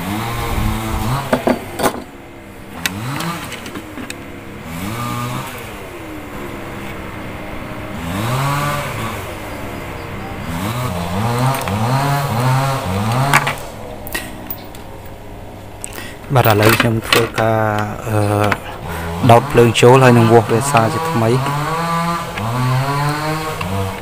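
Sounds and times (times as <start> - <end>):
small engine revving: 0.0 - 1.9, 2.5 - 14.7, 17.8 - 24.0.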